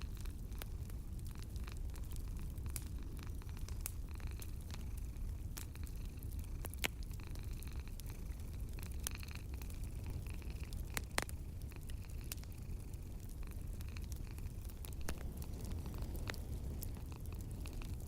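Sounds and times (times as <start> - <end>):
sharp pops of fire: 0.0 - 7.2, 8.0 - 12.6, 13.2 - 18.0
steady low rumble: 0.0 - 18.0
wood fire crackling: 0.0 - 18.0.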